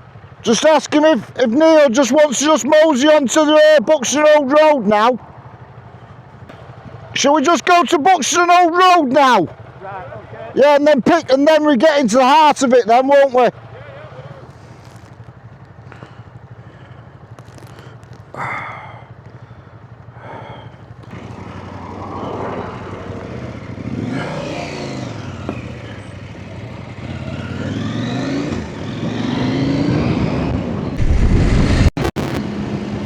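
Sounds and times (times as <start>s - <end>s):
motorcycle engine revving: 1.7s - 11.7s, 13.5s - 33.0s.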